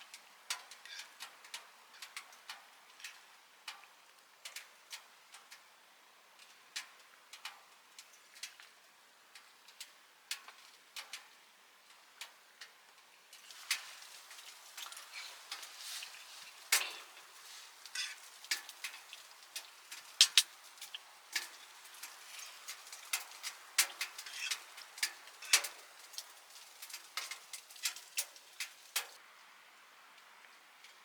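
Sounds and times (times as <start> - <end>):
firewood crackling and popping: 0.0 - 29.2.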